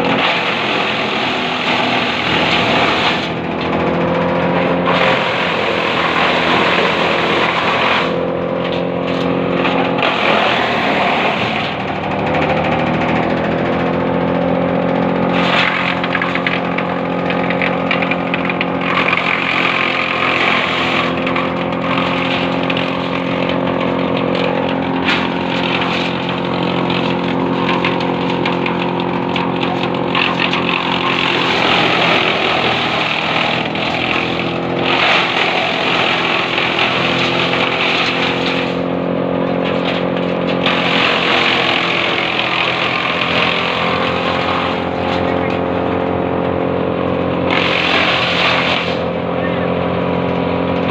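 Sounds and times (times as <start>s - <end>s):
engine running: 0.0s - 50.9s
wood chipper grinding branches: 0.0s - 50.9s.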